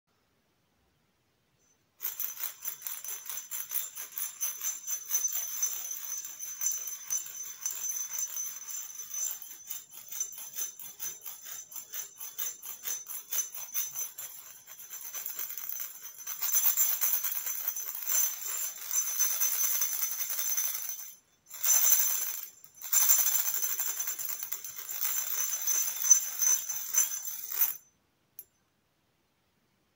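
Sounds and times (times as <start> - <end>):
ceramic maraca rattle: 1.6 - 28.5.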